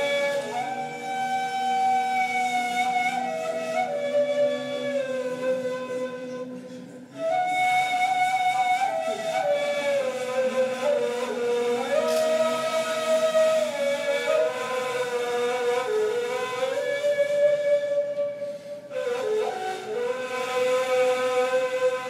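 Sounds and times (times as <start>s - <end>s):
reed flutes playing: 0.0s - 22.0s.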